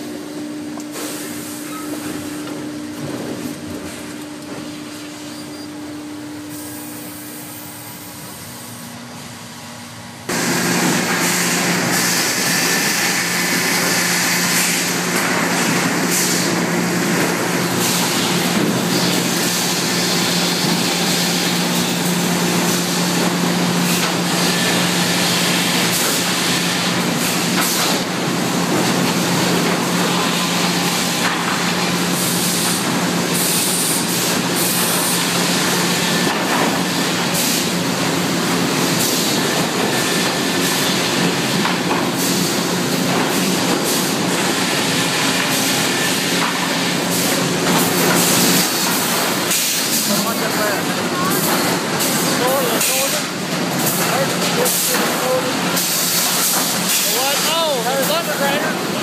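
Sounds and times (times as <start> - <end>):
sawmill motors and conveyors: 0.0 - 59.0.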